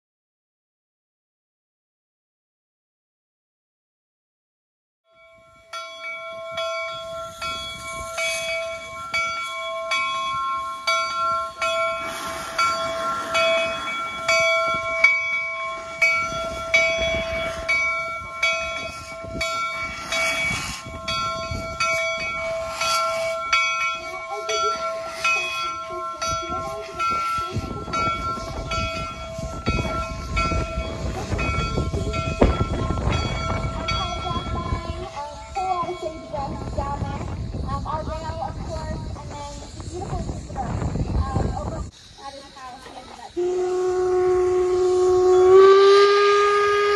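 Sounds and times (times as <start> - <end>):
locomotive bell ringing: 5.1 - 40.9, 42.4 - 46.9
steam hissing: 6.0 - 46.9.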